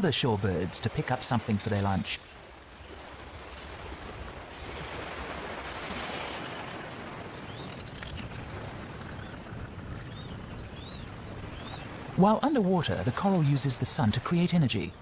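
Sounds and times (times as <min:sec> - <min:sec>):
waves washing over shallow water: 0:00.0 - 0:14.7.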